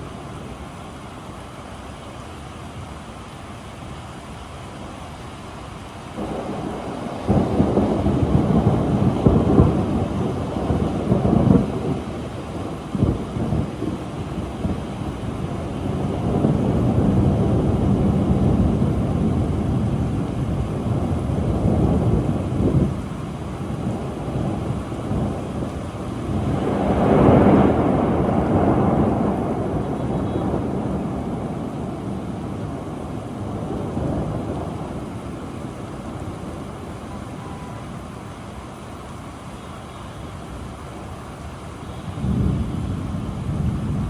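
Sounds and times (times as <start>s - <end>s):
steady rain: 0.0s - 44.0s
rolling thunder: 4.1s - 44.0s.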